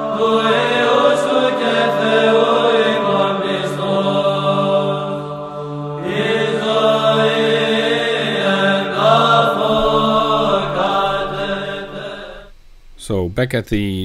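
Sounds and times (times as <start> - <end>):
chanted vocal music: 0.0 - 12.6.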